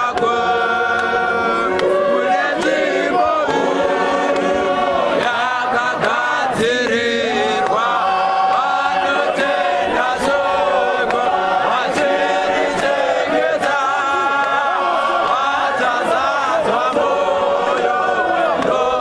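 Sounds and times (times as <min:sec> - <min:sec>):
men singing a hymn: 0:00.0 - 0:19.0.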